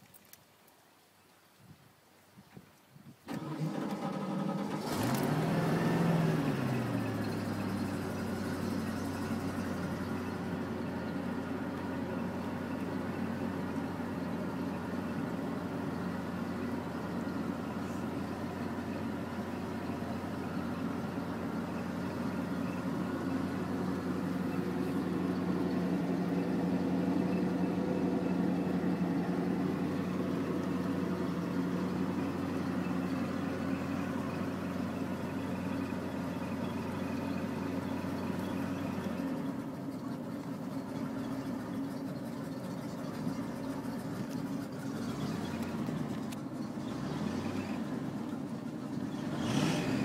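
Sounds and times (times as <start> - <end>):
boat engine idling: 3.3 - 50.0.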